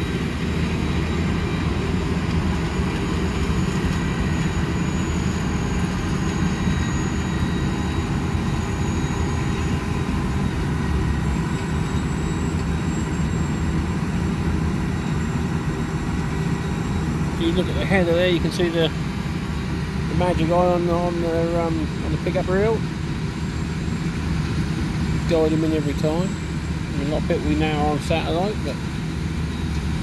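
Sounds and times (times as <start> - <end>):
combine harvester drone: 0.0 - 30.0
faint high whine: 0.0 - 30.0.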